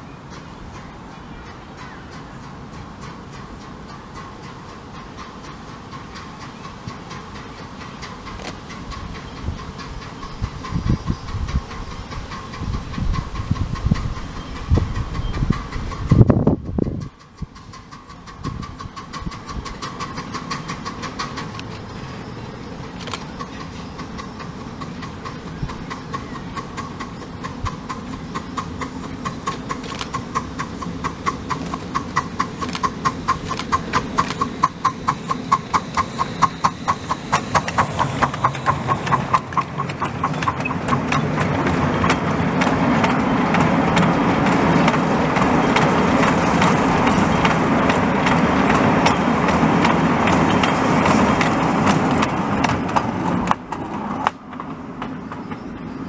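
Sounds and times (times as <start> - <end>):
steam locomotive exhaust beating: 0.0 - 56.0
wagon wheels on rail: 0.0 - 56.0.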